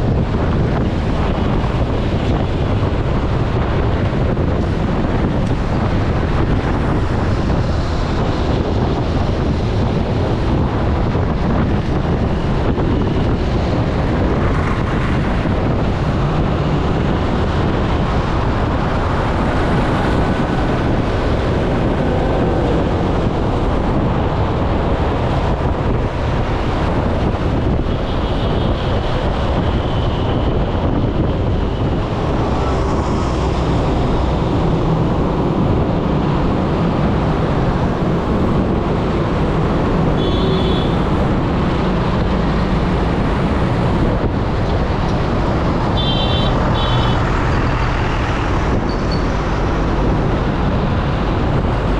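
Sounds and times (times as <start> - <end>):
vehicle traffic noise: 0.0 - 51.9
wind buffeting microphone: 0.0 - 51.9.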